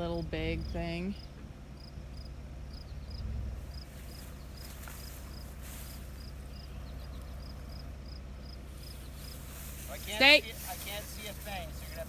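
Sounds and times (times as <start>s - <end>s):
engine idling: 0.0s - 12.0s
insects chirping: 0.0s - 12.0s.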